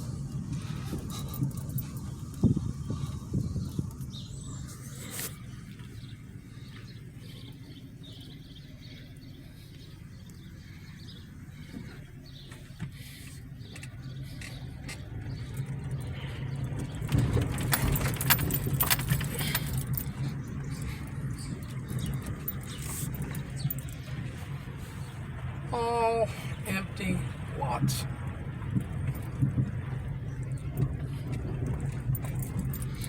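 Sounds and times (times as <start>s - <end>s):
car engine and road noise: 0.0s - 33.0s
birds chirping faintly: 0.1s - 28.0s.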